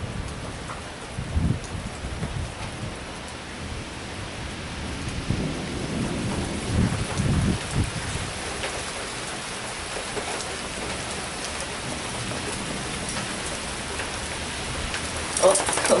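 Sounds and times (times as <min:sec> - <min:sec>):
heavy rain pouring: 0:00.0 - 0:16.0
low thunder rumble: 0:00.0 - 0:16.0.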